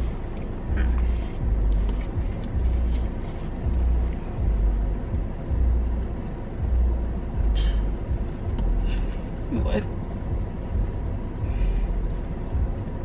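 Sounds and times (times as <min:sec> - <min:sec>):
low car rumble inside cabin: 0:00.0 - 0:13.0.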